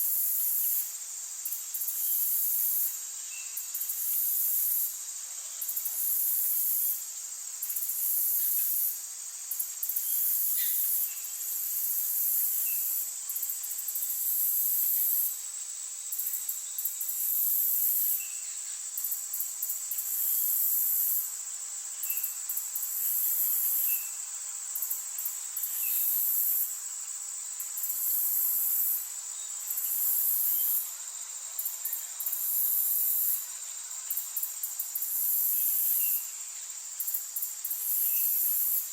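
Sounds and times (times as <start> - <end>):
insects buzzing trill: 0.0 - 38.9.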